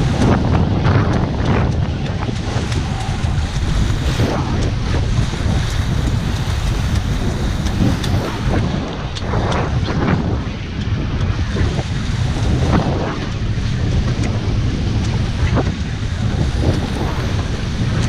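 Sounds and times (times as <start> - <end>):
water splashing along hulls: 0.0 - 18.0
wind buffeting microphone: 0.0 - 18.0.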